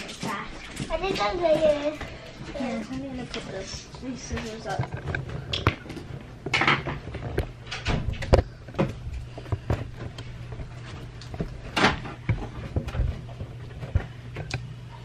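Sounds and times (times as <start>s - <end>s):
knocks clicks and rustles: 0.0s - 14.8s
steady low hum: 0.0s - 15.0s.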